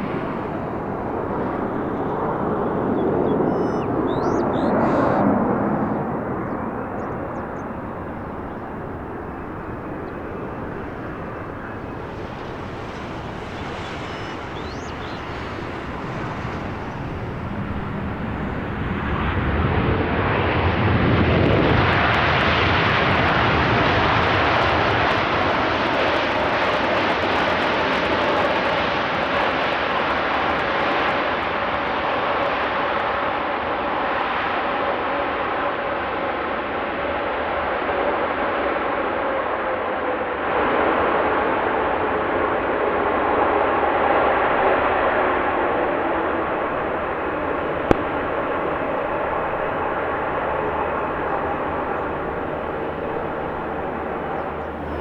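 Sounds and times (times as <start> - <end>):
airplane engines passing close: 0.0 - 31.2, 40.3 - 55.0.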